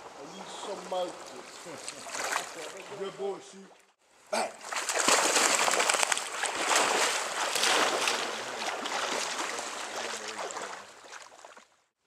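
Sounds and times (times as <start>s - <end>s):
person wading through water: 0.0s - 3.8s, 4.5s - 11.9s.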